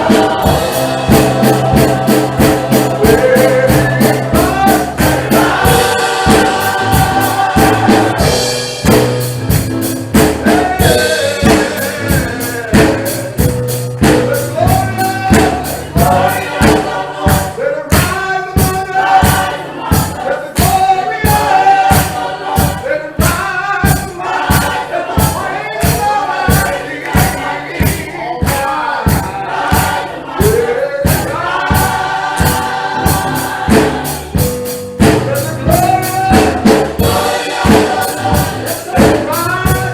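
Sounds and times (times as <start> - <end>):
fast percussion beat: 0.0 - 39.9
gospel choir singing: 0.0 - 39.9.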